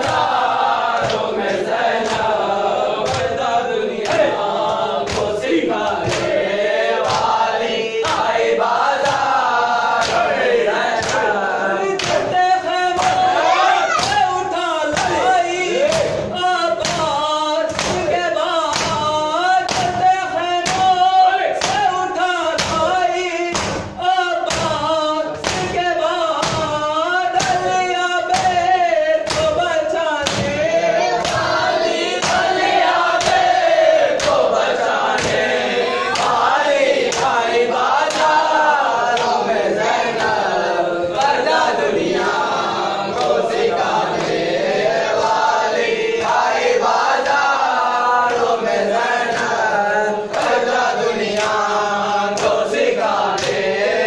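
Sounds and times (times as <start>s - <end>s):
group chanting a lament: 0.0s - 54.0s
rhythmic chest-beating thuds: 0.0s - 54.0s.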